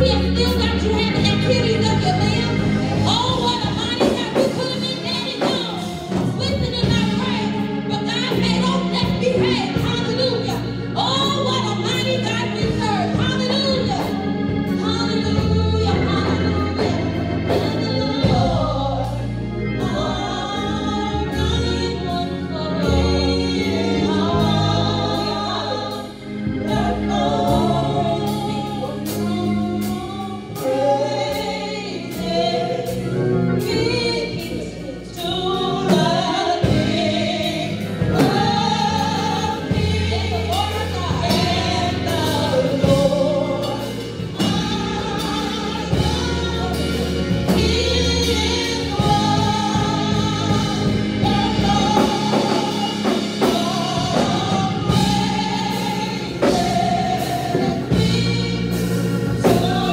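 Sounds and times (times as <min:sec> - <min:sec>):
band playing with bass and beat: 0:00.0 - 0:59.9
choir singing gospel: 0:00.0 - 0:59.9.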